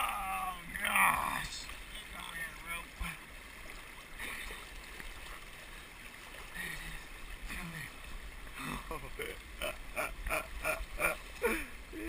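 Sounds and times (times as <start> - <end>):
creek water rushing: 0.0 - 12.0
water splashing bursts: 0.0 - 12.0.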